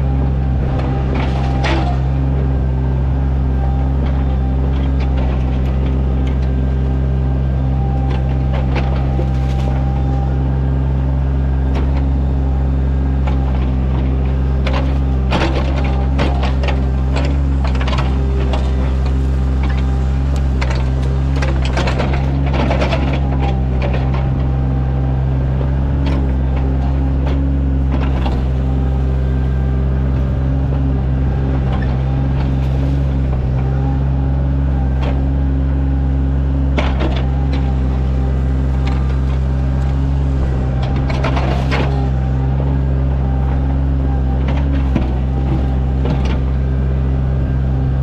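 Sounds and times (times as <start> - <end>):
excavator diesel engine under load: 0.0 - 48.0.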